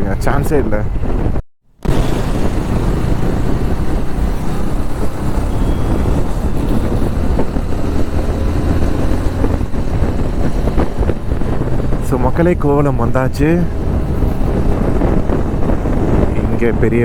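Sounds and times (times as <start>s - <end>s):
motorcycle engine rumble: 0.0s - 17.0s
wind rushing on microphone: 0.0s - 17.0s.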